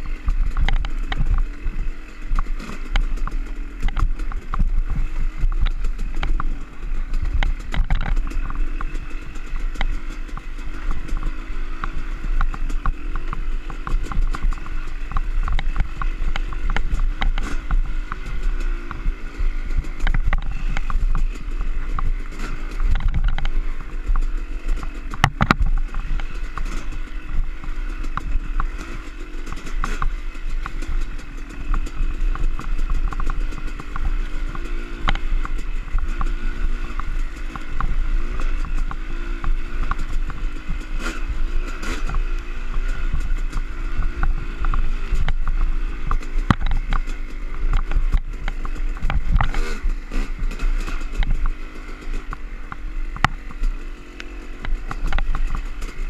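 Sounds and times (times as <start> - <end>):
bike knocks and rattles: 0.0 - 56.0
dirt bike engine revving: 0.0 - 56.0.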